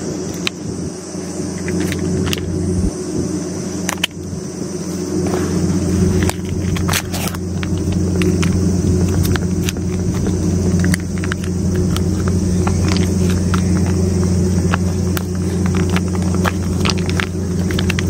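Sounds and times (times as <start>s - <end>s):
high hiss: 0.0s - 18.0s
low motor hum: 0.0s - 18.0s.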